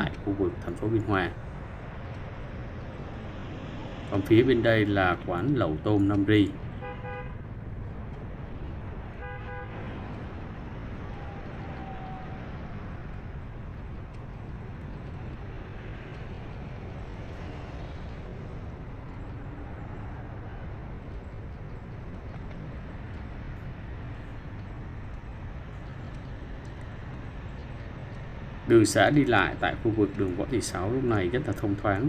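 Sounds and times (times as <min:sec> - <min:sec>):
other traffic: 0:00.0 - 0:32.0
vehicle road and wind rumble: 0:00.0 - 0:32.0.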